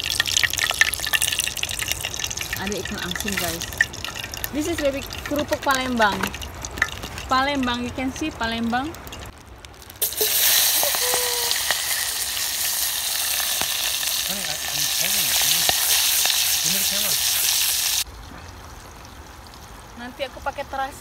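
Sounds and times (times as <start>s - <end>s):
vegetables sizzling in hot oil: 0.0s - 18.1s.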